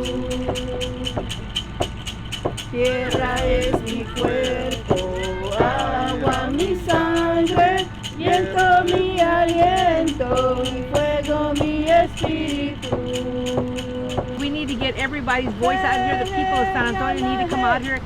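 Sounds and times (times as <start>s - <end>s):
ceremonial singing: 0.0s - 18.0s
shaken rattle: 0.0s - 18.0s.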